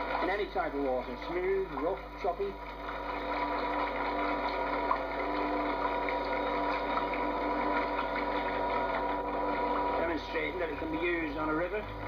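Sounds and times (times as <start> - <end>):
small motor and pump whirring: 0.0 - 12.0.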